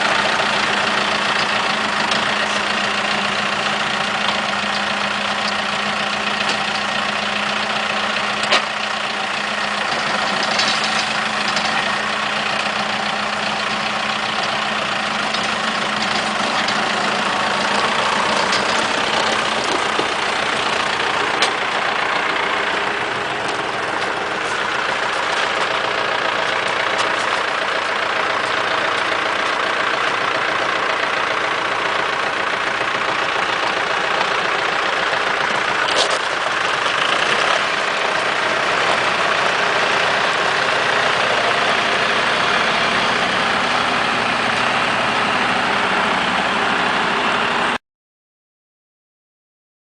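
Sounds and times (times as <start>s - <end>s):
tractor diesel engine running: 0.0s - 47.8s.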